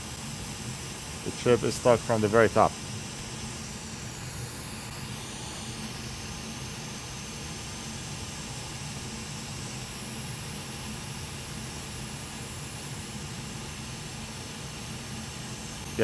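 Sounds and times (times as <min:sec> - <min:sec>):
hot air blower hissing: 0:00.0 - 0:16.0.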